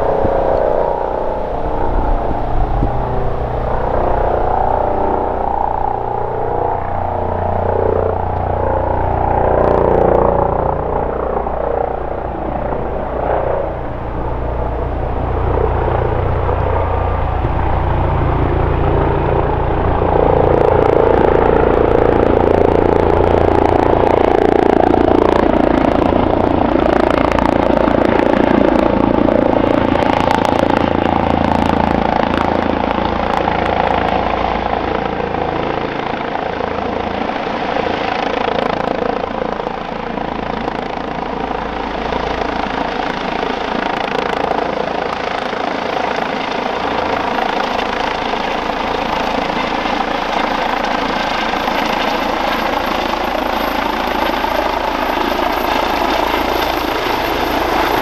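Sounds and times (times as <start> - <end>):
helicopter rotor and turbine drone: 0.0 - 58.0.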